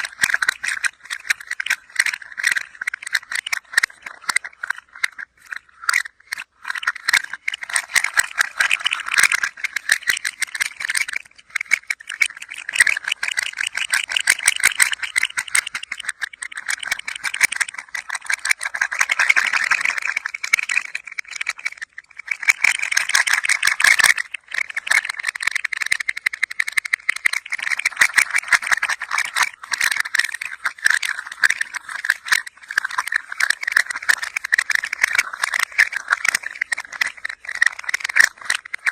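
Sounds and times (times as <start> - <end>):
toy rattling: 0.0 - 38.9.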